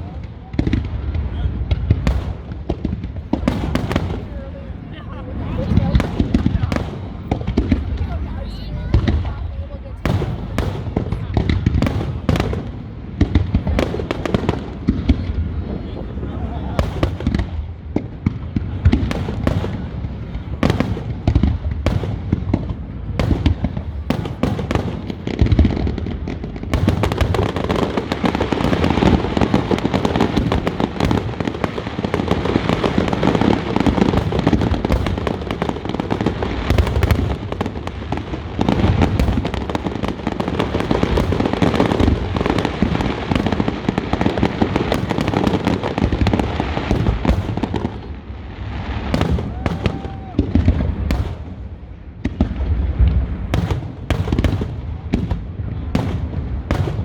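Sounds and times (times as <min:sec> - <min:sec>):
fireworks booms and crackles: 0:00.0 - 0:57.0.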